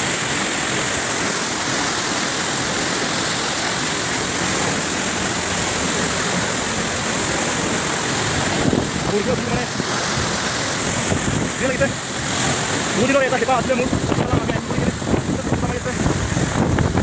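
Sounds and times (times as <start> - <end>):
waterfall splashing: 0.0 - 17.0.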